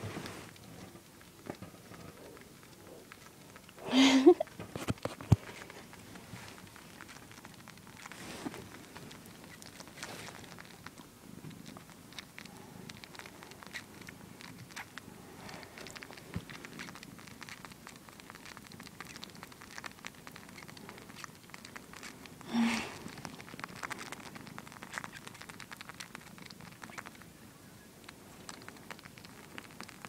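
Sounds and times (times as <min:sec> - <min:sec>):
cat purring: 0:00.0 - 0:30.0
cat sucking clicks: 0:04.6 - 0:27.3, 0:28.0 - 0:30.0.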